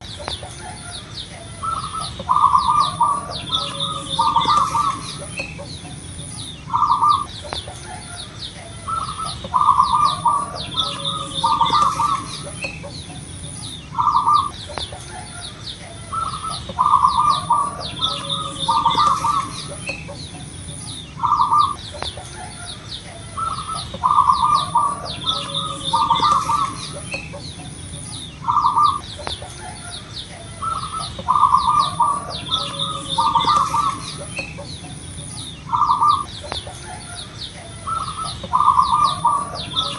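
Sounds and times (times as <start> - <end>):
steady high pulsing: 0.0 - 8.1, 8.8 - 15.4, 16.1 - 39.9
small birds chirping: 0.0 - 39.9
dove cooing: 0.1 - 39.9.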